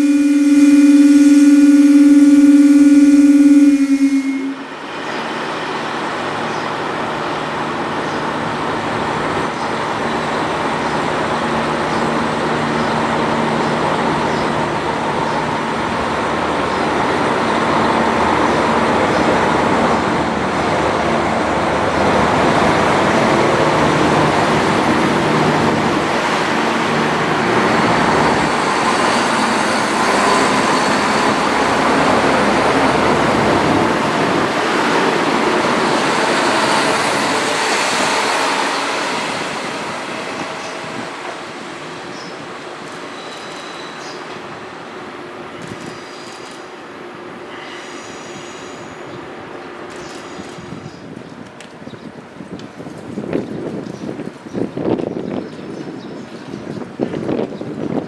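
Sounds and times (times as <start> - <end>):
diesel railcar engines humming: 0.0 - 53.3
wheels rumbling on rail: 0.0 - 58.0.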